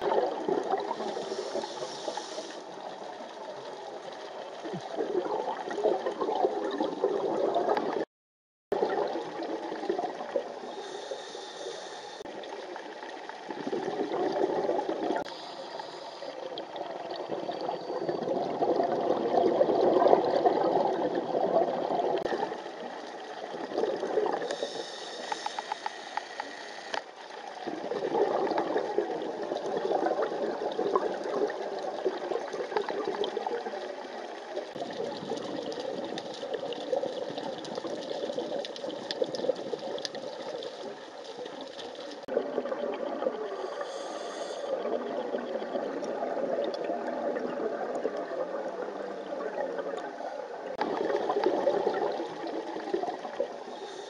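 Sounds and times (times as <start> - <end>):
scuba regulator bubbling exhalations: 0.0 - 8.1, 8.7 - 54.0.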